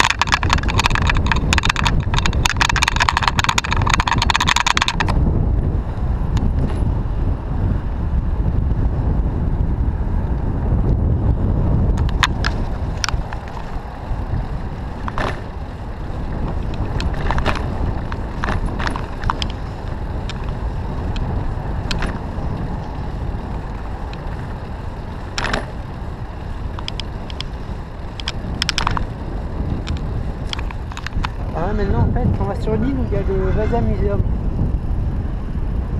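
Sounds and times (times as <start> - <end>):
bicycle rattles and clicks: 0.0 - 35.9
tyres rumbling on road: 0.0 - 35.9
wind buffeting microphone: 0.0 - 35.9.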